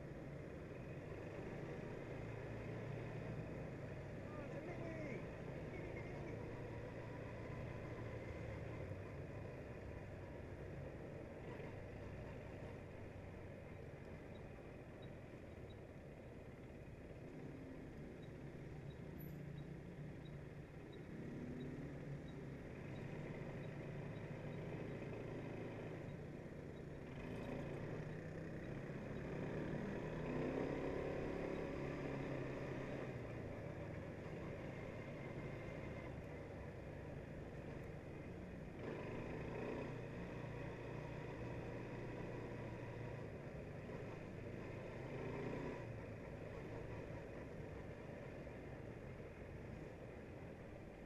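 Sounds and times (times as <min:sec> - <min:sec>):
quad bike engine running: 0:00.0 - 0:51.0.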